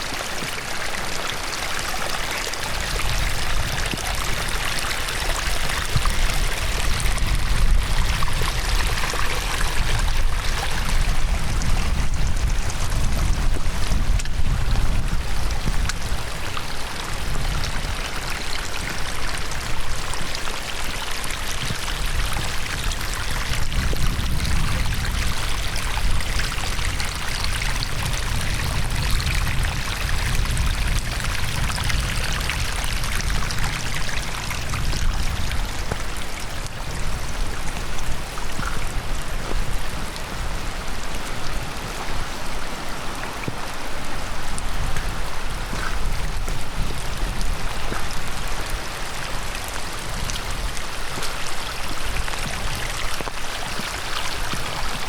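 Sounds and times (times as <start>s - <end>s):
heavy rain: 0.0s - 55.0s
stream rushing: 0.0s - 55.0s.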